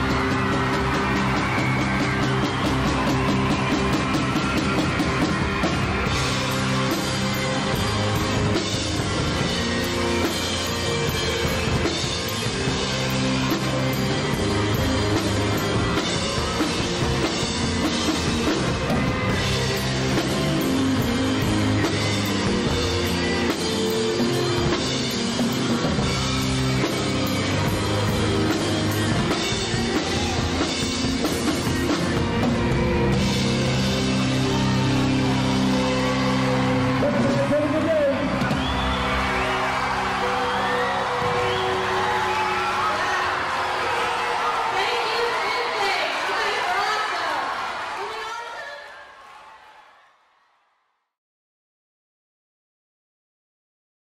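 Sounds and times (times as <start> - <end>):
rock band playing: 0.0 - 46.9.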